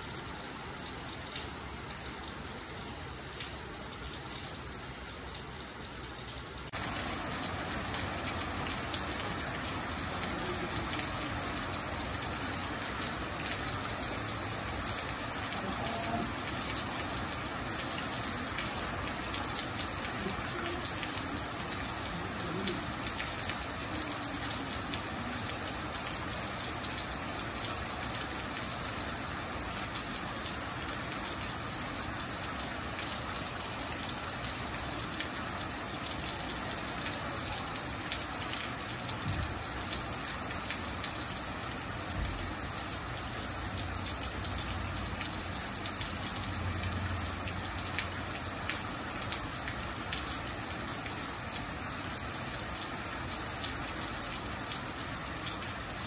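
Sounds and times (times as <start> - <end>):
rain on porch and pavement: 0.0 - 56.0.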